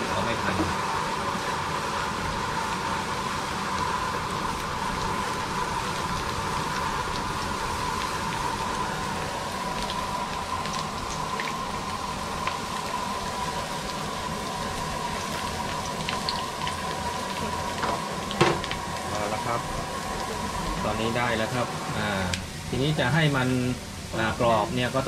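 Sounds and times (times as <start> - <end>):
garlic sizzling in hot oil: 0.0 - 25.0.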